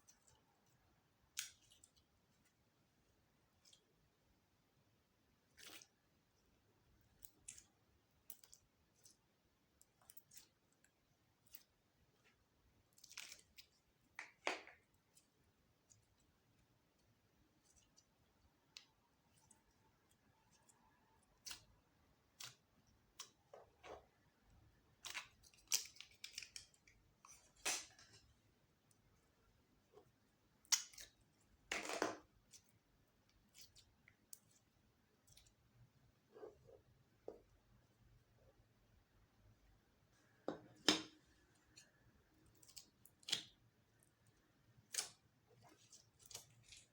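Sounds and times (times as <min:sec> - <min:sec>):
slime squishing: 0:05.0 - 0:37.2, 0:41.4 - 0:46.9.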